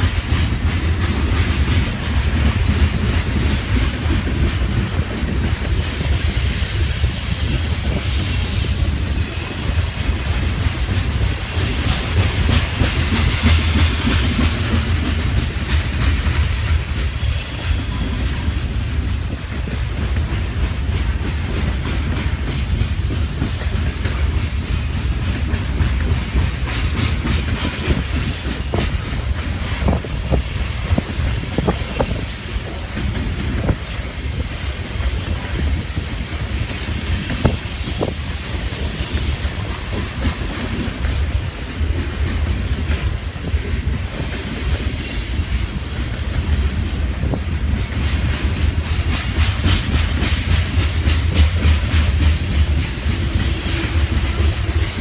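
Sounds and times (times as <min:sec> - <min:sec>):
freight train rumbling past: 0:00.0 - 0:55.0
steel wheels clacking over rail joints: 0:00.0 - 0:55.0.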